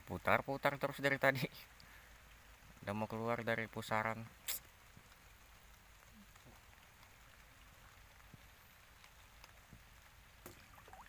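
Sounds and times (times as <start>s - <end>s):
rain falling on water: 0.0s - 11.0s.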